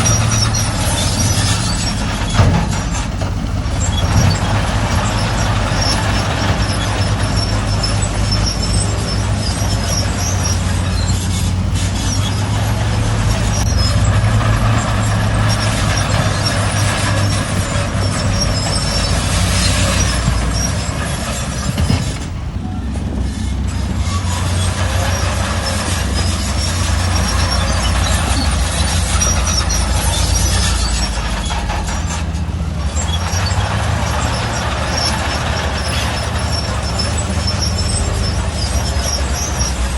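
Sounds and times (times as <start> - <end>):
heavy machinery engine hum: 0.0 - 39.9
faint high squeaks: 3.8 - 39.9.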